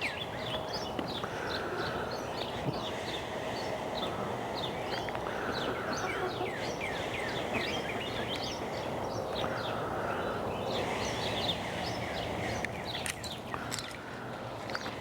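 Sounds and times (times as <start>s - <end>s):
birds chirping: 0.0s - 15.0s
outdoor background noise: 0.0s - 15.0s.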